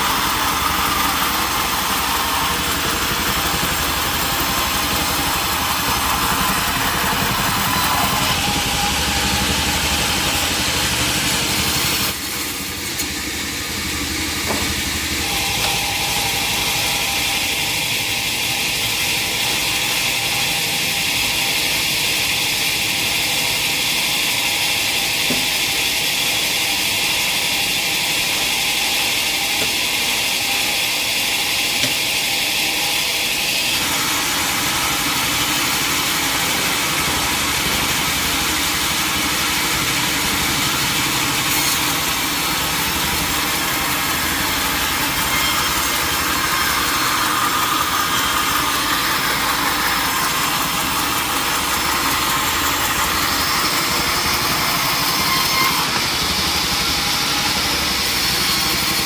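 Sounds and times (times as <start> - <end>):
high saw cutting sound: 0.0 - 59.0
sawmill saw running: 0.0 - 59.0.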